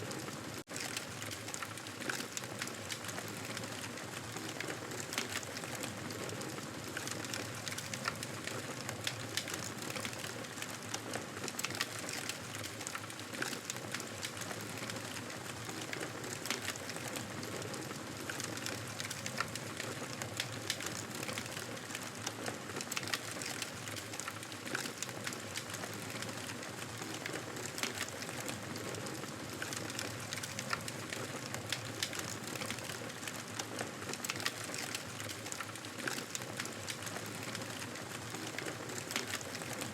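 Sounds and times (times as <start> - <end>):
campfire crackling and hissing: 0.0 - 39.9.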